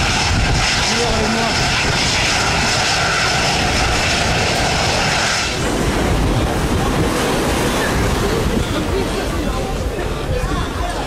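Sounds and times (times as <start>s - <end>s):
rushing noise: 0.0s - 10.0s
jet engines running: 0.0s - 11.0s.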